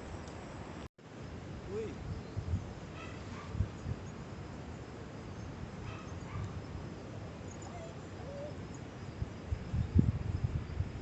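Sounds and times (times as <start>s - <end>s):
wind buffeting microphone: 1.5s - 11.0s.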